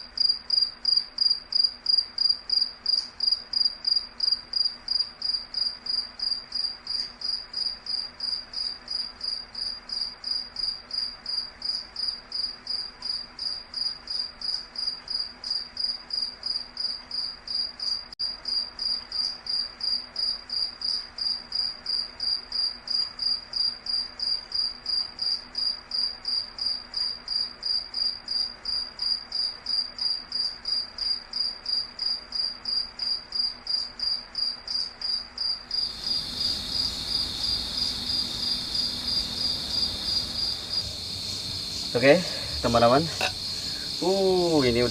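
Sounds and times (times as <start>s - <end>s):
night insect chirping: 0.0s - 44.9s.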